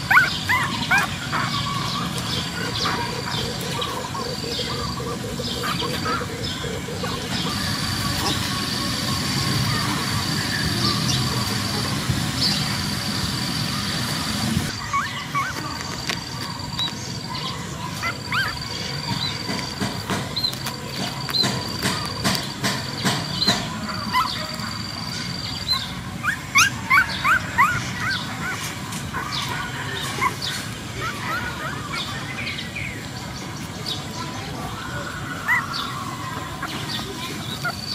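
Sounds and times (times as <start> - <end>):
puppies squeaking and whimpering: 0.0 - 33.1, 34.6 - 37.9.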